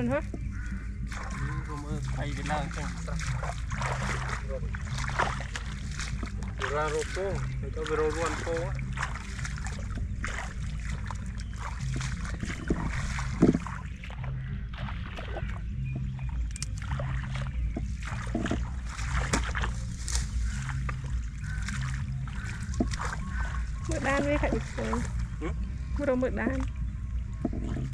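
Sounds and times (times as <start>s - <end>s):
steady low rumble: 0.0s - 27.9s
water splashing and sloshing: 0.0s - 27.9s.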